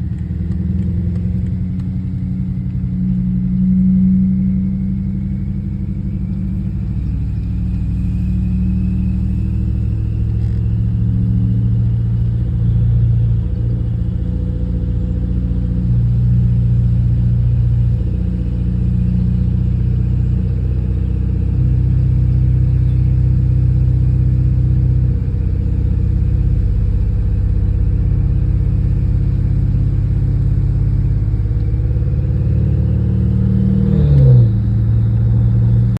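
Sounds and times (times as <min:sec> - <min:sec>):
car engine droning: 0:00.0 - 0:35.9.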